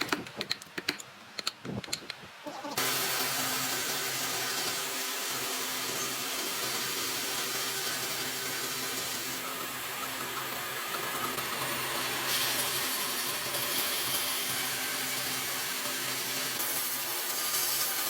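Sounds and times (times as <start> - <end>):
motor running with hissing rush: 2.8 - 18.0.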